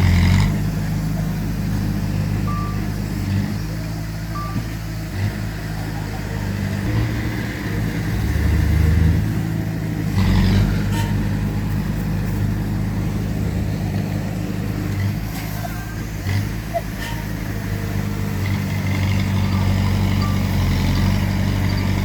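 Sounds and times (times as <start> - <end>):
heavy diesel engines under load: 0.0 - 22.0.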